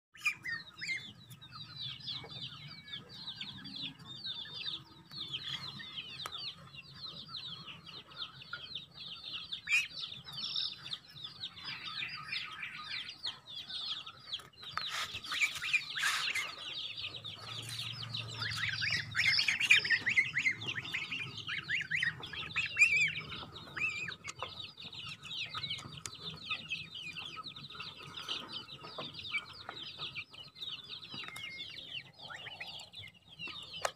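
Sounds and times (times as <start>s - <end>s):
goslings peeping: 0.2s - 33.9s.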